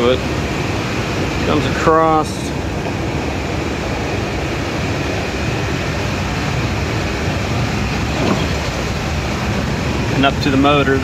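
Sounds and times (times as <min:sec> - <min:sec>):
air-conditioning machine running: 0:00.0 - 0:11.0
low hum: 0:00.0 - 0:11.0.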